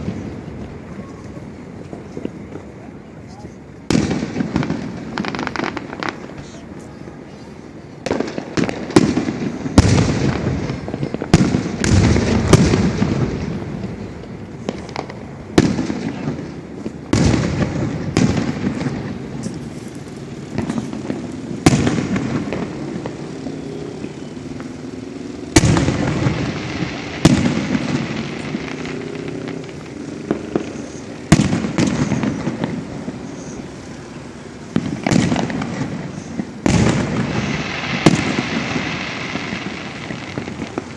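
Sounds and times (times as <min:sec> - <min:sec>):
fireworks bursting with echo: 0:00.0 - 0:40.9
fireworks crackling: 0:00.0 - 0:40.9.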